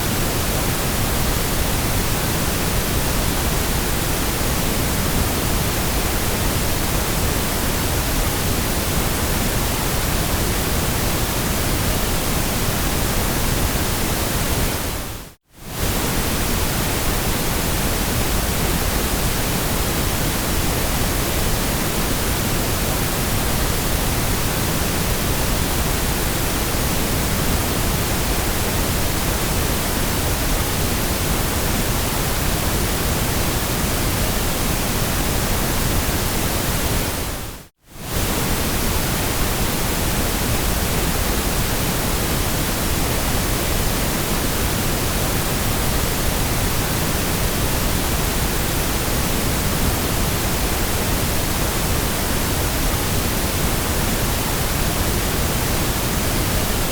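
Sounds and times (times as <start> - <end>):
white noise: 0.0 - 56.9.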